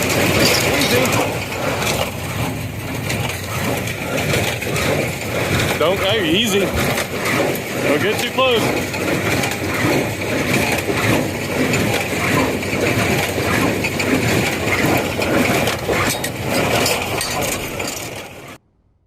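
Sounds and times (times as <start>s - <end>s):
baler crunching and clattering: 0.0s - 18.6s.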